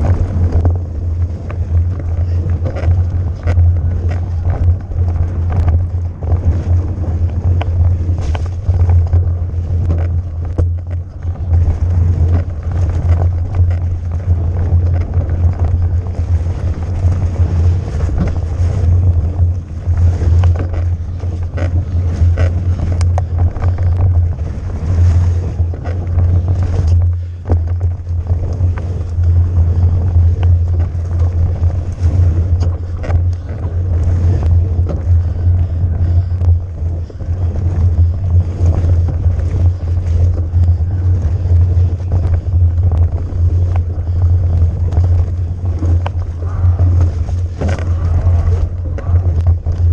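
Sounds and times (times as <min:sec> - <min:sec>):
bike rattling over rough trail: 0:00.0 - 0:49.9
wind buffeting microphone: 0:00.0 - 0:49.9.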